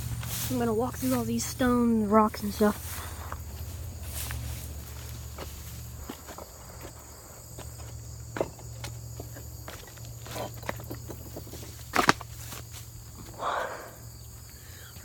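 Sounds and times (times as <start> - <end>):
footsteps on rocky ground: 0.0 - 13.4
insects buzzing: 0.0 - 15.0.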